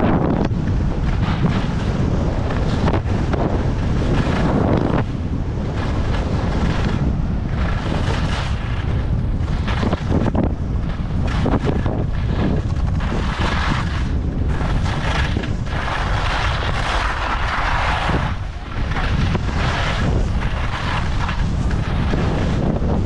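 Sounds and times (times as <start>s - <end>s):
skis scraping over snow: 0.0s - 23.0s
wind buffeting microphone: 0.0s - 23.0s.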